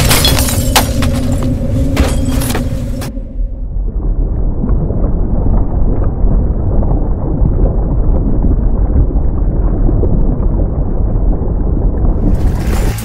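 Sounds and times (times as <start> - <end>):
volcano low rumble: 0.0 - 13.0.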